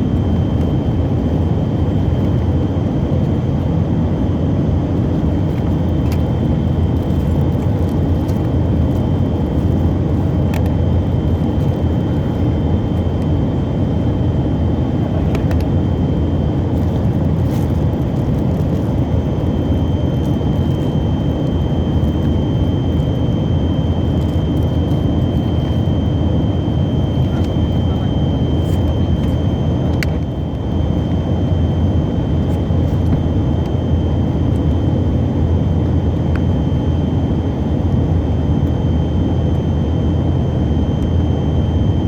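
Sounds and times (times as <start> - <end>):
aircraft engines roaring: 0.0 - 42.0
thin steady whine: 0.0 - 42.0.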